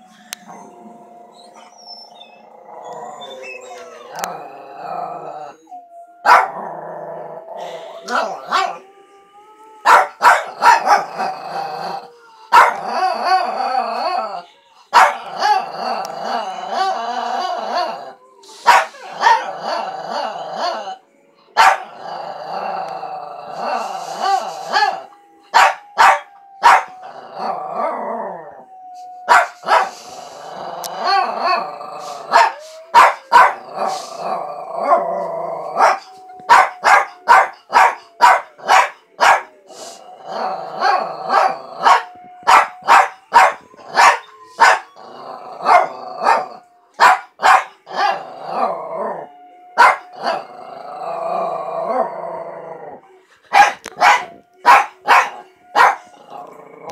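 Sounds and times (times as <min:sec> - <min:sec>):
small dog howling: 0:02.4 - 0:21.0, 0:21.6 - 0:56.9.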